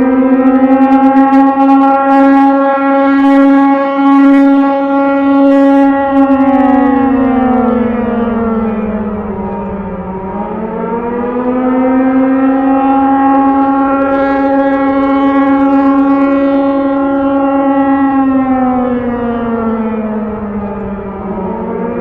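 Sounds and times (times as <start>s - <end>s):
air-raid siren wailing: 0.0s - 22.0s.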